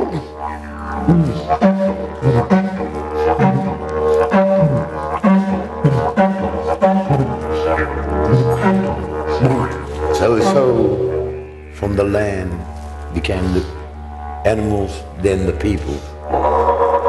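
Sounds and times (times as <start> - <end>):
didgeridoo drone: 0.0 - 17.0.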